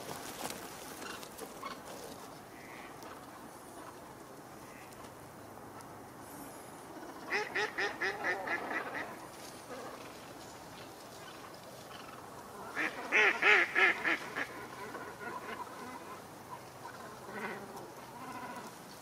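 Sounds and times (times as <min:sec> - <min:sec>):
ducks and swans calling: 0:00.0 - 0:05.1, 0:06.9 - 0:19.0.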